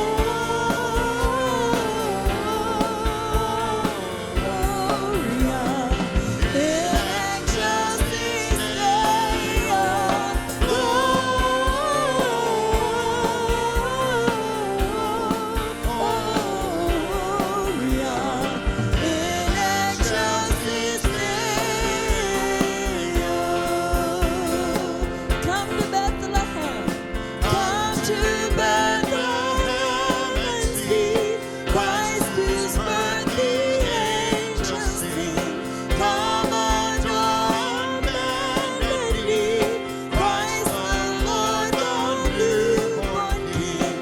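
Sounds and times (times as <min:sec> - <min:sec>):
band playing: 0:00.0 - 0:44.0
singers leading worship song: 0:00.0 - 0:44.0
steady drum beat: 0:00.0 - 0:44.0.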